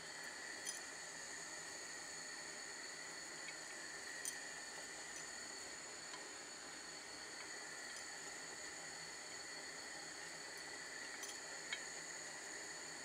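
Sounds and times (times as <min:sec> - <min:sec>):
syrup boiling hiss: 0:00.0 - 0:13.0.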